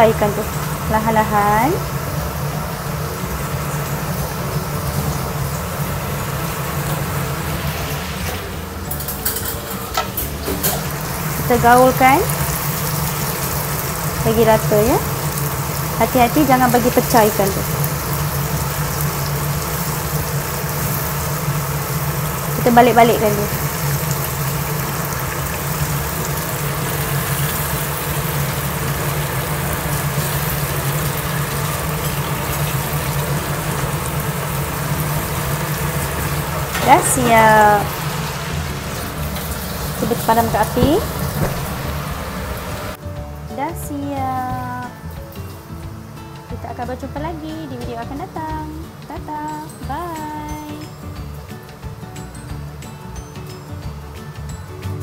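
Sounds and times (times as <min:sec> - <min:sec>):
mechanical fan hum: 0:00.0 - 0:52.2
food sizzling in oil: 0:00.0 - 0:55.0.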